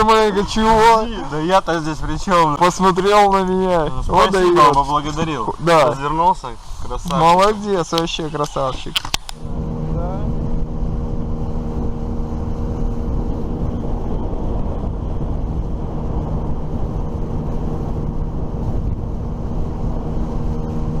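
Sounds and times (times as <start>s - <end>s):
engine running with low rumble: 0.0s - 6.2s, 6.8s - 21.0s.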